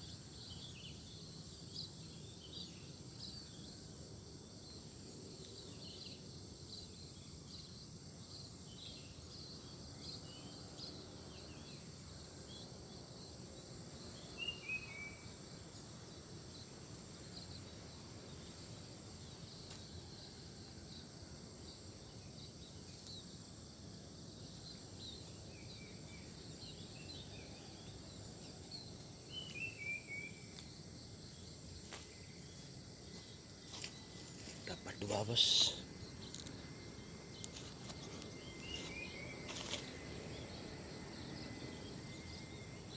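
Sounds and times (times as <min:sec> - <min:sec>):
small birds chirping: 0:00.0 - 0:21.0, 0:21.6 - 0:42.9
high insect drone: 0:00.0 - 0:42.9.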